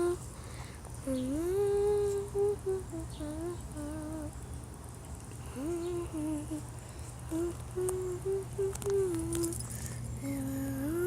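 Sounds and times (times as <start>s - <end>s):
person humming a slow tune: 0.0s - 0.4s, 1.0s - 4.4s, 5.4s - 11.0s
steady low rumble: 0.0s - 11.0s.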